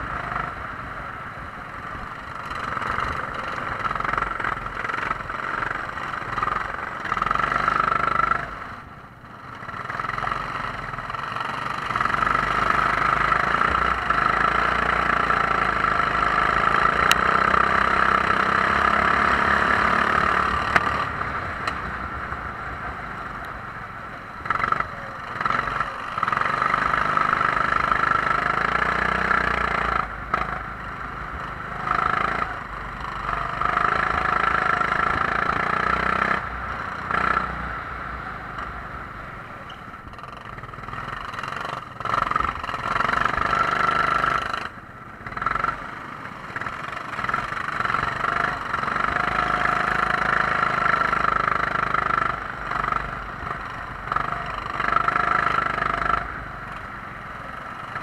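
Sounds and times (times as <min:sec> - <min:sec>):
racing kart engine: 0:00.0 - 0:58.0.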